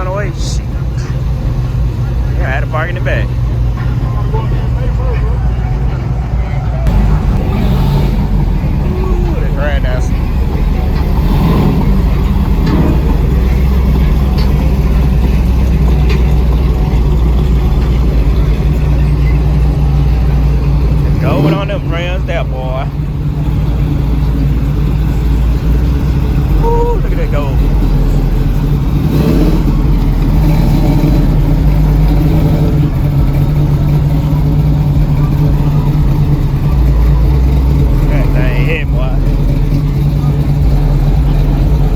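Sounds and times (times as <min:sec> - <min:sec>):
car engine and exhaust rumble: 0:00.0 - 0:41.9.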